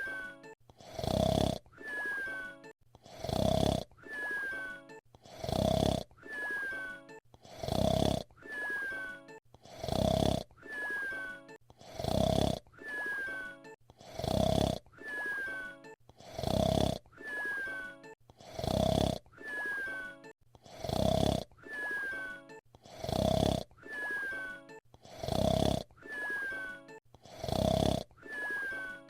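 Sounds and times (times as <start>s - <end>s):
cartoon whistle snore: 0.0s - 29.0s.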